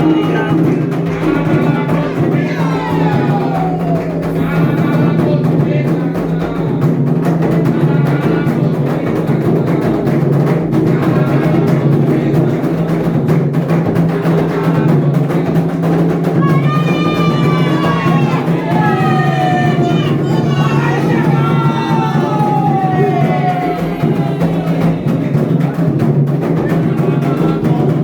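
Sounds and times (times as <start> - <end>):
hand drums playing a steady rhythm: 0.0 - 28.0
people singing: 0.0 - 28.0.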